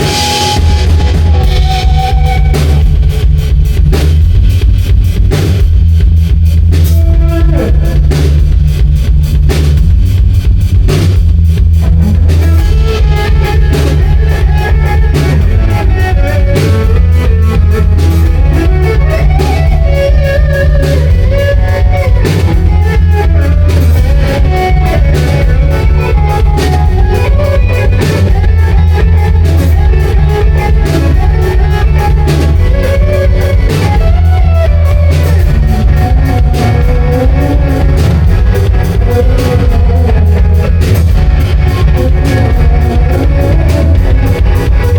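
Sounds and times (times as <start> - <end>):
drum kit beat: 0.0 - 44.9
electric guitar: 0.0 - 44.9
heavy bass line: 0.0 - 44.9.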